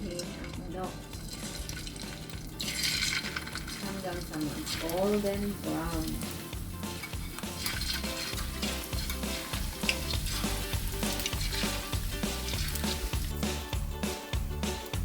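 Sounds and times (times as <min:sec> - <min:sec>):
chicken frying in oil: 0:00.0 - 0:15.0
upbeat background music: 0:00.0 - 0:15.0.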